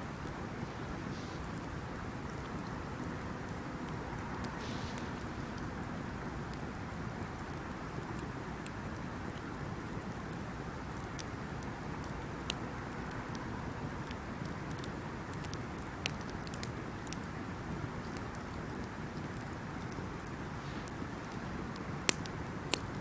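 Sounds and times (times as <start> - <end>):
bonfire crackling and hissing: 0.0 - 23.0
bonfire popping: 0.1 - 23.0.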